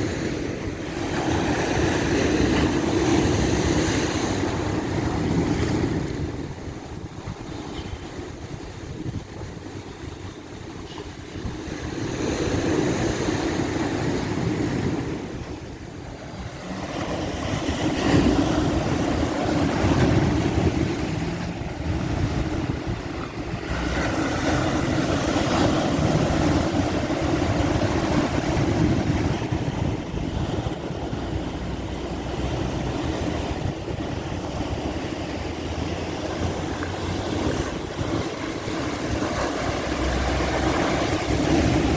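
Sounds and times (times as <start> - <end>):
sea waves washing onto beach: 0.0 - 41.9.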